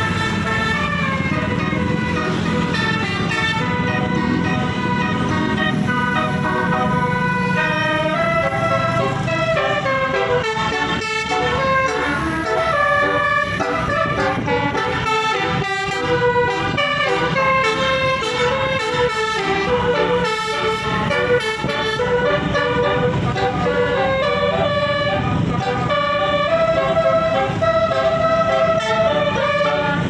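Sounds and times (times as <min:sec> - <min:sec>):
bus air horn playing a melody: 0:00.0 - 0:30.0
low engine rumble: 0:00.0 - 0:30.0.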